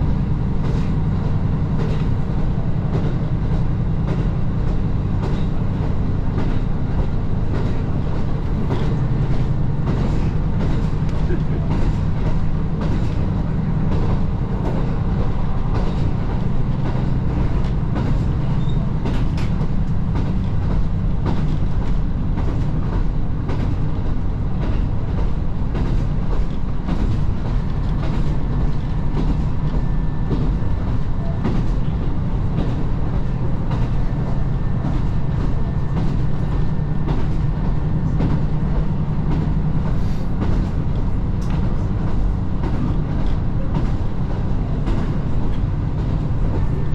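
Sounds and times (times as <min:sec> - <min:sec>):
railcar engine drone: 0:00.0 - 0:46.9.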